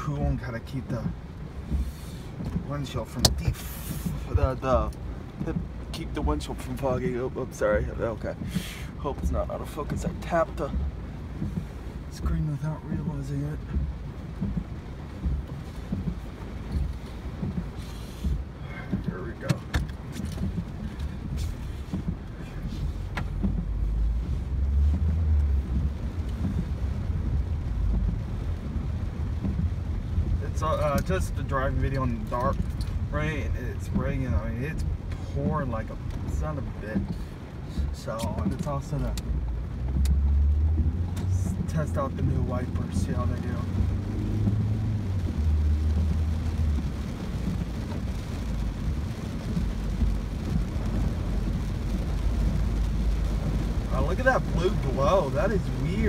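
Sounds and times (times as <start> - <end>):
car road rumble: 0.0 - 56.0
rain and tyre spray: 0.0 - 56.0.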